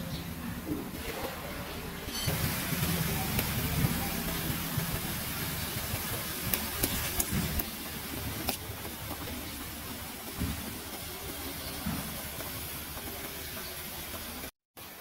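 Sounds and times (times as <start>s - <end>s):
wok frying sizzle: 2.2s - 15.0s.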